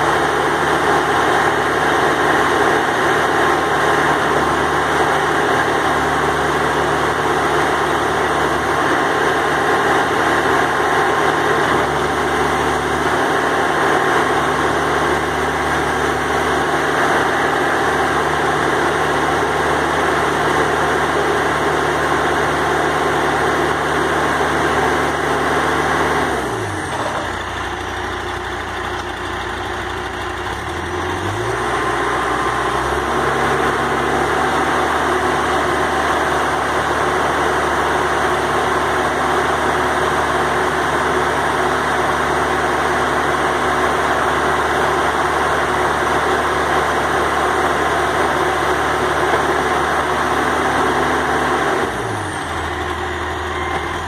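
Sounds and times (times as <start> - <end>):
diesel engine running: 0.0 - 54.0
hydraulics working: 0.1 - 54.0.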